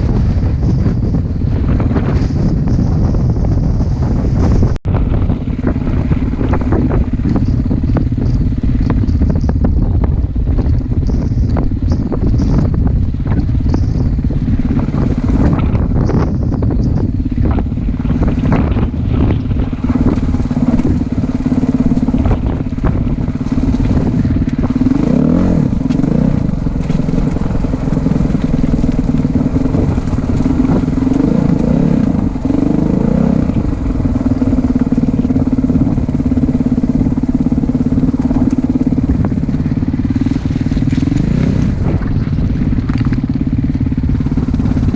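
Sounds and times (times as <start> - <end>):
off-road vehicle engine: 0.0 - 44.9
rumble of the ride: 0.0 - 44.9.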